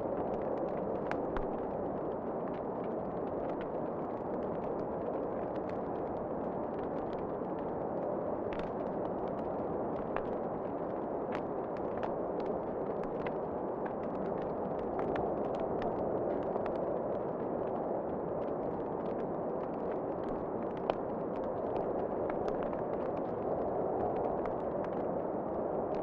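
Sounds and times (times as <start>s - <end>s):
fire crackling and popping: 0.1s - 26.0s.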